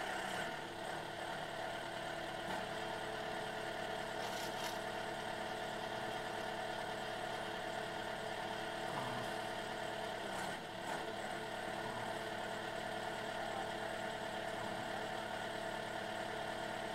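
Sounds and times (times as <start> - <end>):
wood splitter engine running: 0.0 - 16.9.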